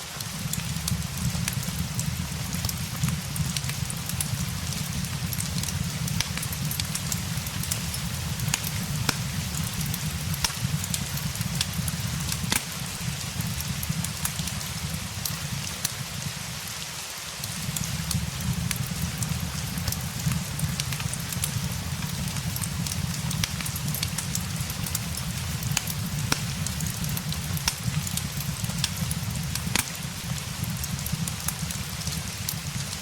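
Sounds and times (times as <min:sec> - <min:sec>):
fireplace crackling: 0:00.0 - 0:33.0
steady rain: 0:00.0 - 0:33.0.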